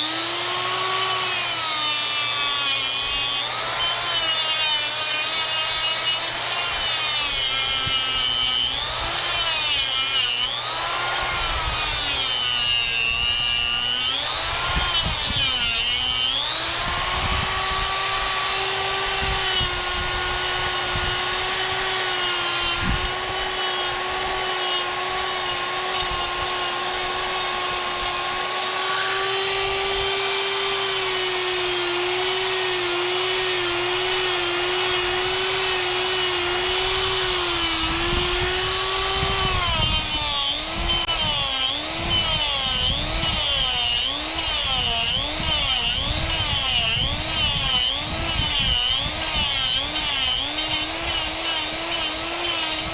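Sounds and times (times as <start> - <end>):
die grinder cutting wood: 0.0 - 52.9.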